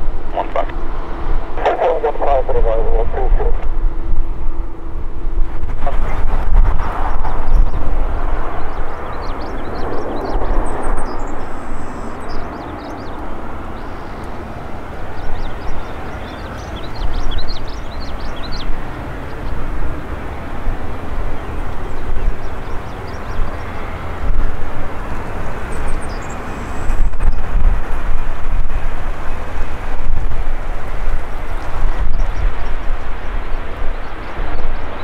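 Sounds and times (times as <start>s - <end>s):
jet engine rumble: 0.0s - 35.0s.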